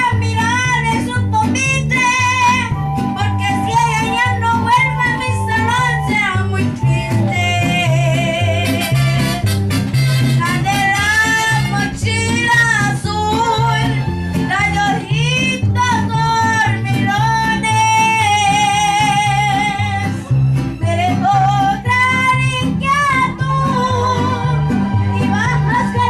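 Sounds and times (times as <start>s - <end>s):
child singing with vibrato: 0.0s - 8.8s, 10.4s - 19.9s, 21.0s - 26.0s
guitar: 0.0s - 26.0s
repeating bass line: 0.0s - 26.0s.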